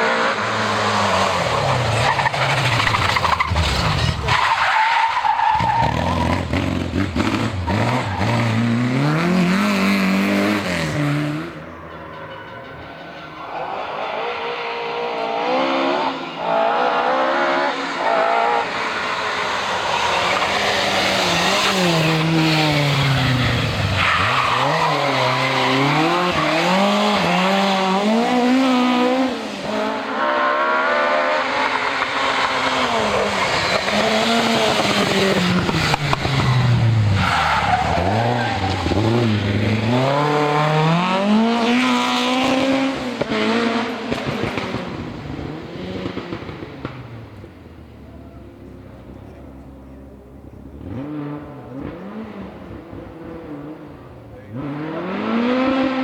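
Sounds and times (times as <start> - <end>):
rally car engine revving: 0.0 - 12.0, 13.5 - 56.0.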